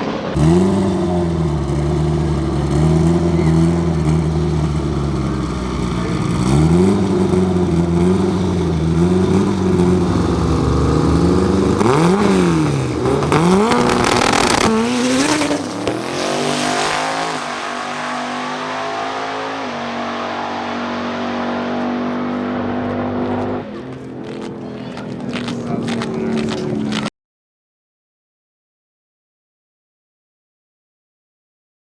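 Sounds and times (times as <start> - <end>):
racing car engine revving: 0.0 - 27.1.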